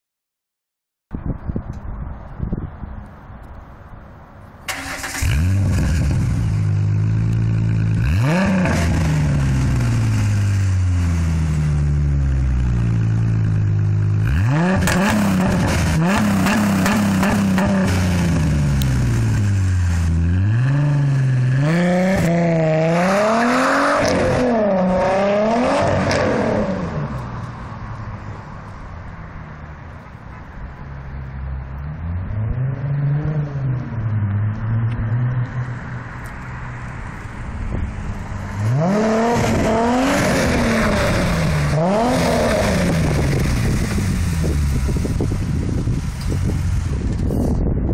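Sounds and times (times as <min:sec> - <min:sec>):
car engine revving: 0:04.7 - 0:27.6, 0:31.3 - 0:47.6.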